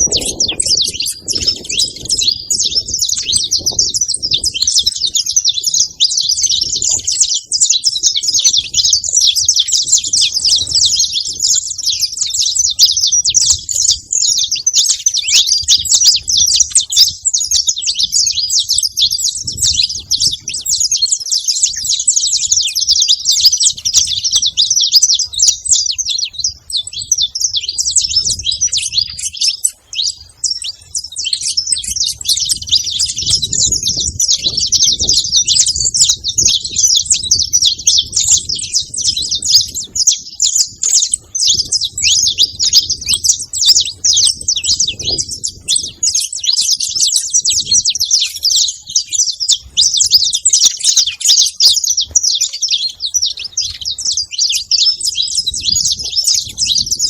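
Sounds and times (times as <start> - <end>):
finch chirping and singing: 0.0 - 57.0.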